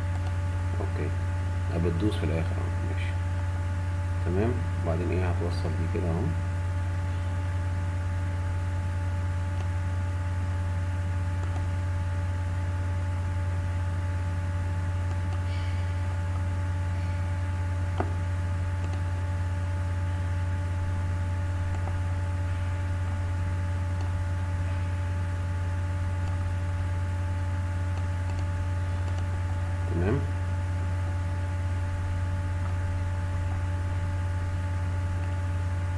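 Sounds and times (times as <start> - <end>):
electrical mains hum: 0.0 - 35.9.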